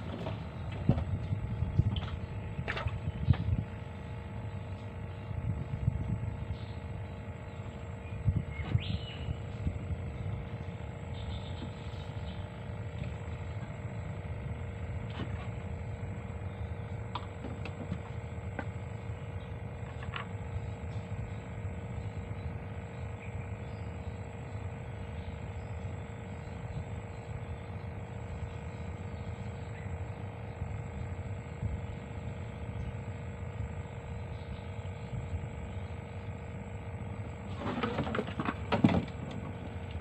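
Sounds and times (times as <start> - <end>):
low rumble with hum: 0.0 - 40.0.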